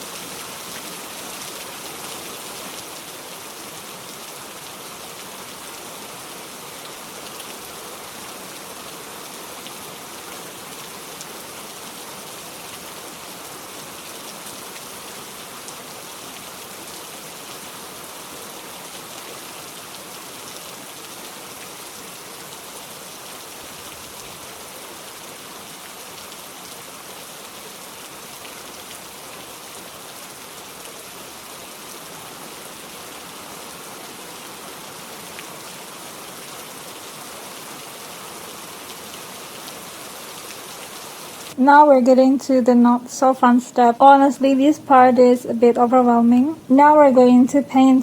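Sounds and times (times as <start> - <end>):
steady rain falling: 0.0 - 41.6.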